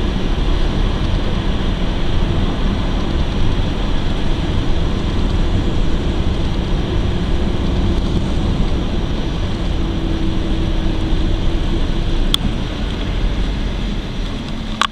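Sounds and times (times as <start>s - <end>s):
engine and tyre rumble: 0.0s - 14.9s.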